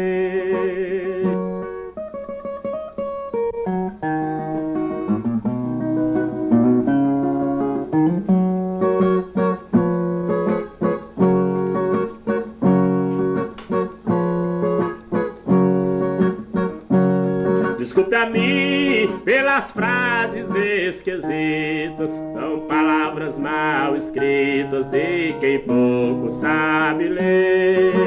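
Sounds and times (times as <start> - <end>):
steel-string guitar playing: 0.0 - 28.0.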